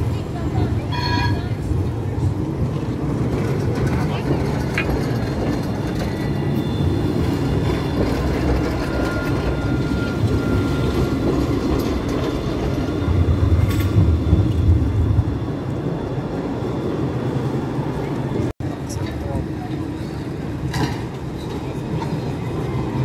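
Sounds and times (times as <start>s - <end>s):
tram rumbling on rails: 0.0s - 23.0s.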